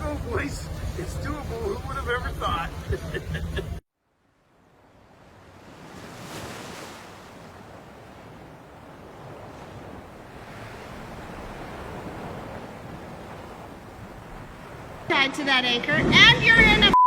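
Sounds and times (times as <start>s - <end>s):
rushing water and waves: 0.0s - 17.0s
wind: 0.0s - 17.0s.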